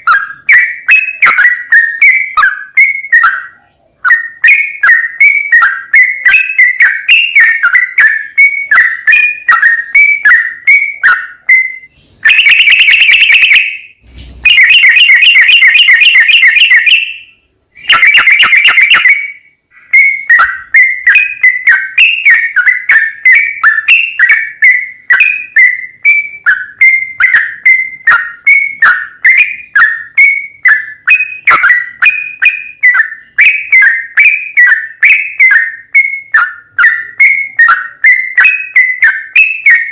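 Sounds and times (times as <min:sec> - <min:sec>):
bird song whistled notes: 0:00.0 - 0:39.9
bird trills: 0:00.0 - 0:39.9.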